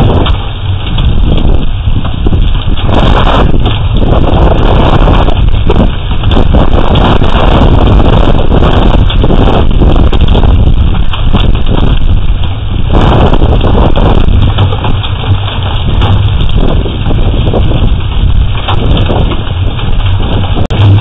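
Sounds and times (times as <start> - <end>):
hail and heavy rain: 0.0 - 21.0
wind buffeting microphone: 0.0 - 21.0.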